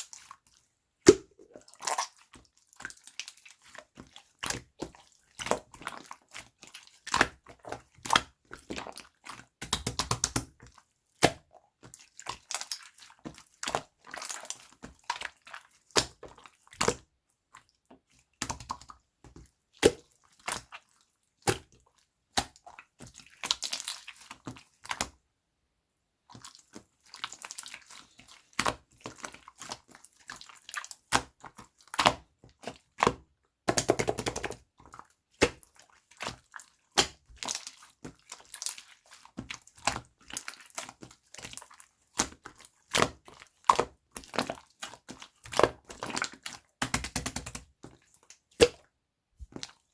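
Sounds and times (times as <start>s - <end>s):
hands squishing wet slime: 0.0s - 25.3s, 26.2s - 49.9s.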